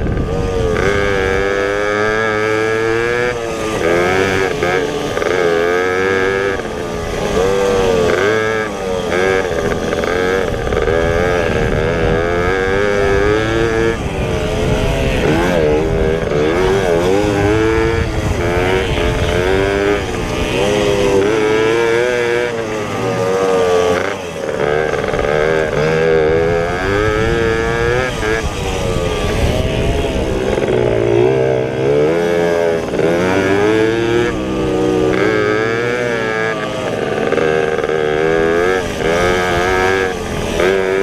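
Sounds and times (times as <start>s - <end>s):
pit bike engines revving: 0.0s - 41.0s.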